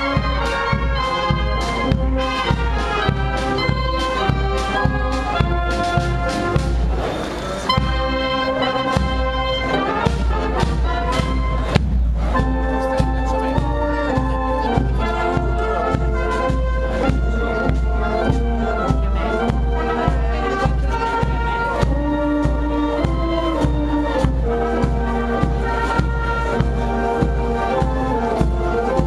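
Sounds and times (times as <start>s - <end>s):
brass band playing a march: 0.0s - 29.0s.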